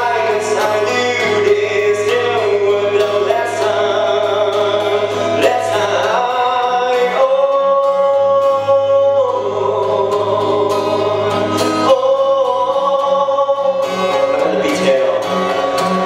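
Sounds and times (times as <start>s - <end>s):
guitar with pulsing beat: 0.0s - 16.0s.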